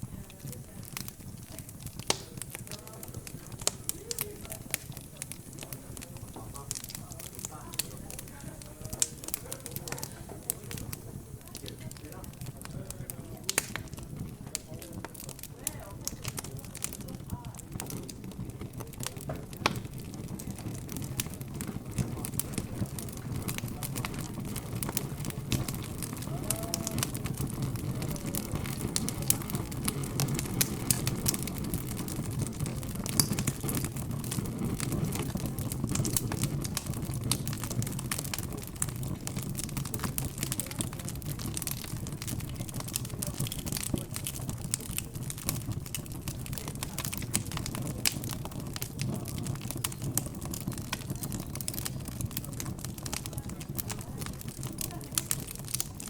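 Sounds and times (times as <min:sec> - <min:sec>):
murmur of background chatter: 0:00.0 - 0:56.0
wood fire crackling and popping: 0:00.0 - 0:56.0.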